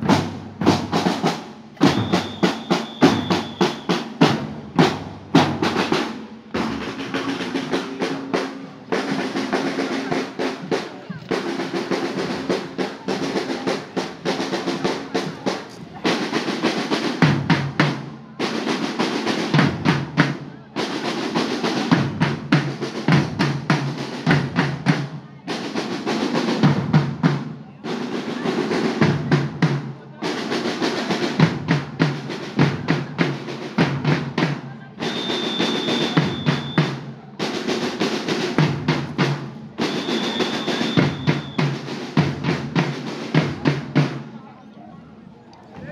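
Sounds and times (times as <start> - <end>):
snare drum beats and rolls: 0.0 - 44.3.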